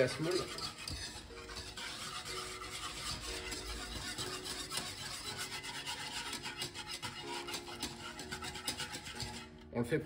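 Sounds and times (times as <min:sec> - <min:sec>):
whisk scraping bowl: 0:00.0 - 0:09.8.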